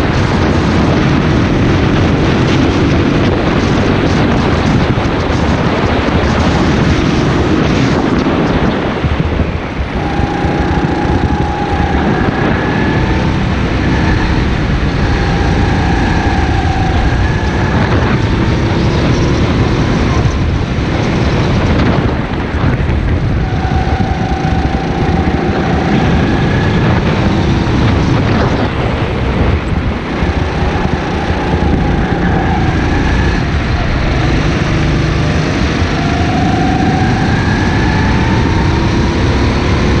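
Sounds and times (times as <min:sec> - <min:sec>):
go-kart engine racing: 0:00.0 - 0:40.0
wind and track noise: 0:00.0 - 0:40.0.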